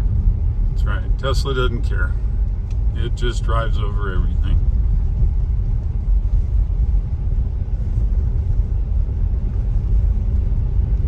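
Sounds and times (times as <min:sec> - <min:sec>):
tyre and road noise: 0:00.0 - 0:11.0.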